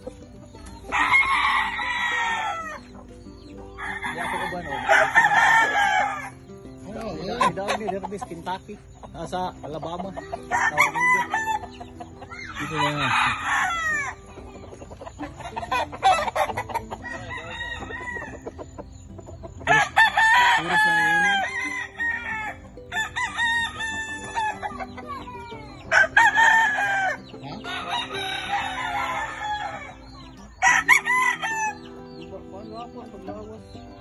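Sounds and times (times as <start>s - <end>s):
roosters crowing: 0.0s - 34.0s.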